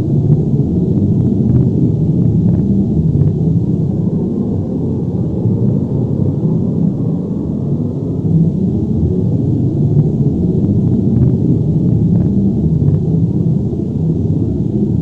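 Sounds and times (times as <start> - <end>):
deep steady rumble: 0.0 - 15.0.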